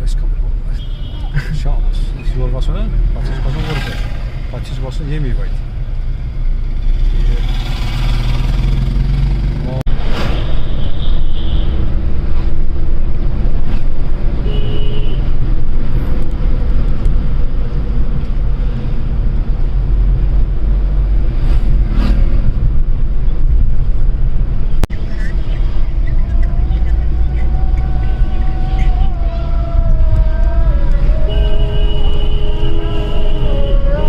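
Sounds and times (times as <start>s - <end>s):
moving vehicle rumble: 0.0s - 34.0s.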